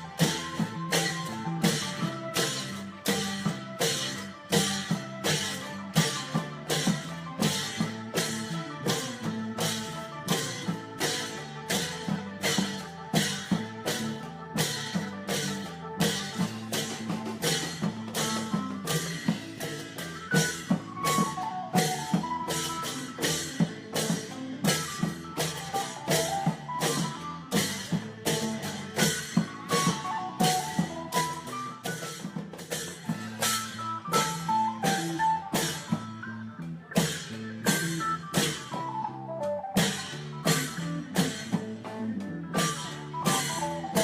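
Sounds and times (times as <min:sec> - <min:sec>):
long drums beating: 0:00.0 - 0:36.1, 0:39.8 - 0:44.0
pitched melody line: 0:00.0 - 0:44.0.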